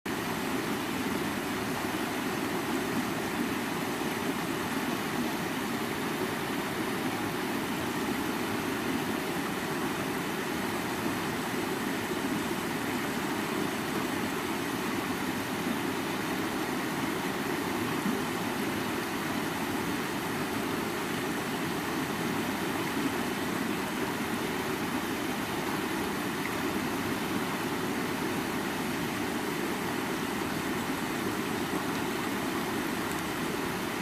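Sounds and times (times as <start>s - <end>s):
river rushing over rocks: 0.1s - 34.0s.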